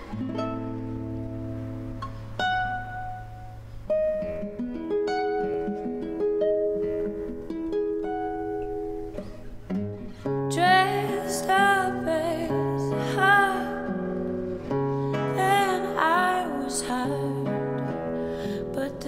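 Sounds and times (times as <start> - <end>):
classical guitar fingerpicked: 0.0 - 19.0.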